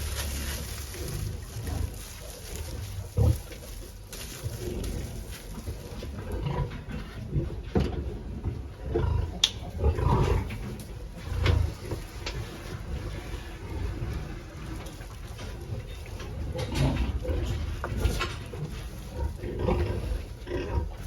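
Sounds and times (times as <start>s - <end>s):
pigs grunting: 0.0s - 21.0s.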